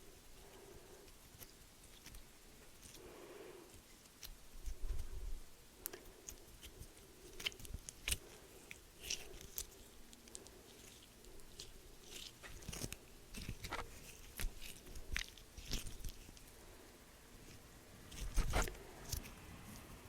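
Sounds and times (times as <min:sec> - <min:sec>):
crunching and chewing crisp snack: 0:00.0 - 0:19.8.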